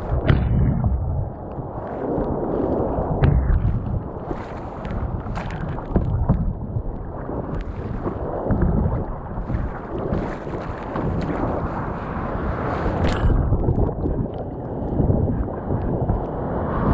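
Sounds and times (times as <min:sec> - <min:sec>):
wind buffeting microphone: 0:00.0 - 0:16.9
water splashing around kayak hull: 0:03.0 - 0:16.6.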